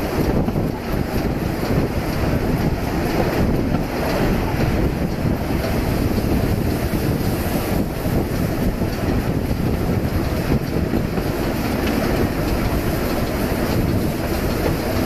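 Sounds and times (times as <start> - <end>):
train carriage running on track: 0.0 - 15.0
wind buffeting microphone: 0.0 - 15.0.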